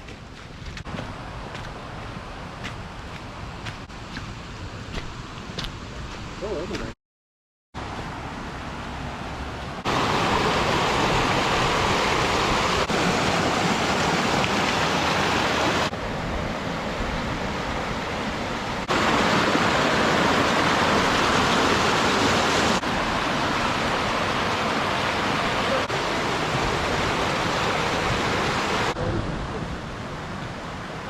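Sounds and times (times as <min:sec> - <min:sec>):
water rushing: 0:00.0 - 0:07.0, 0:07.8 - 0:31.0.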